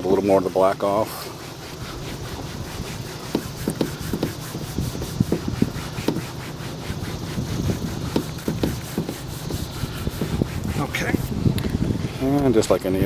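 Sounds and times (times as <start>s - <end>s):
cloth rubbing on plastic: 0.1s - 12.4s.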